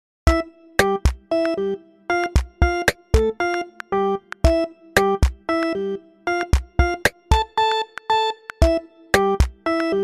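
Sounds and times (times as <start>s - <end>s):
synthesizer music with drum beat: 0.3s - 10.0s.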